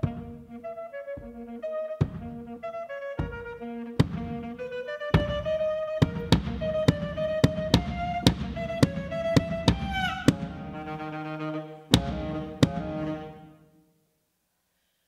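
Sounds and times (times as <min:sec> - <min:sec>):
saxophone playing held notes: 0:00.0 - 0:13.8.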